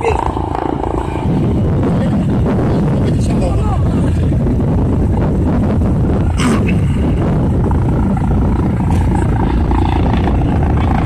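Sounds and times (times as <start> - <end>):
helicopter rotor and engine rumble: 0.0 - 11.0.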